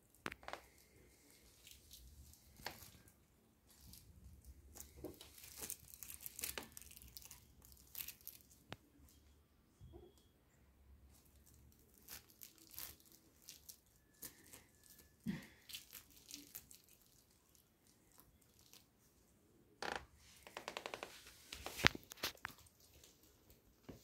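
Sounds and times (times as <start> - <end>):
faint crinkling and clicking: 0.0 - 10.3, 11.0 - 19.2, 19.8 - 24.0.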